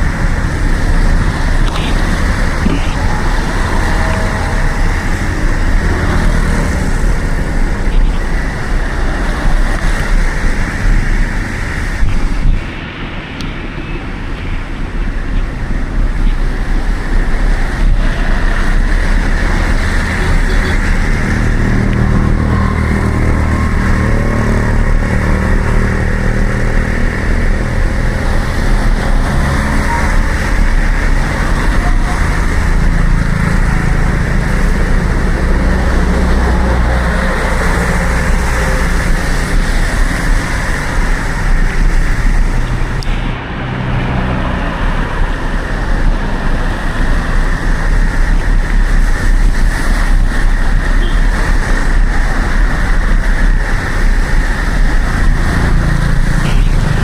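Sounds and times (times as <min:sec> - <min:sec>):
motor vehicle engines running: 0:00.0 - 0:57.0
road and wind noise: 0:00.0 - 0:57.0.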